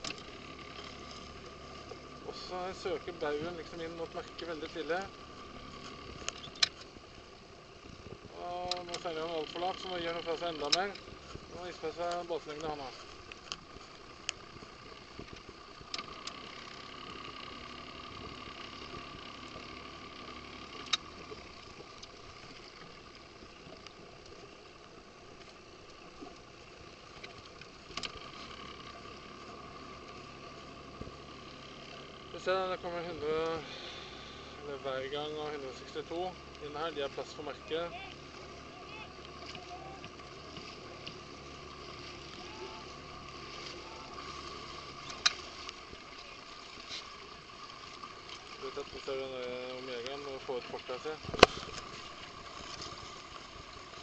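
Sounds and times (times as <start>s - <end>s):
motorboat engine whine: 0.0s - 54.0s
water noise: 0.0s - 54.0s
wind: 0.0s - 54.0s.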